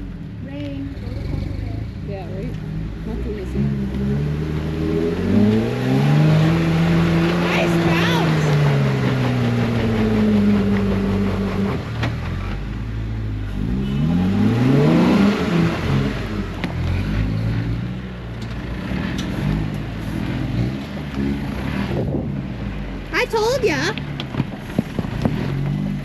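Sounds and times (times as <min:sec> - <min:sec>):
off-road engine revving: 0:00.0 - 0:26.0.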